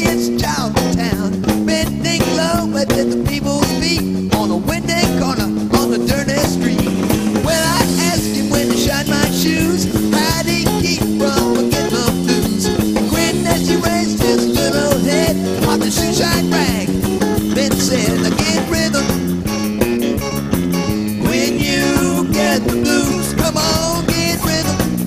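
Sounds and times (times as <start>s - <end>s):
drum kit beat: 0.0s - 25.0s
electric bass walking line: 0.0s - 25.0s
electric guitar: 0.0s - 25.0s.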